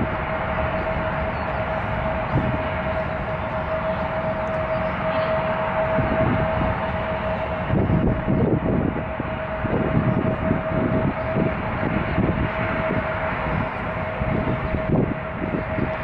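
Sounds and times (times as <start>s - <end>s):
jet engines whining: 0.0s - 16.0s
wind buffeting microphone: 0.0s - 16.0s.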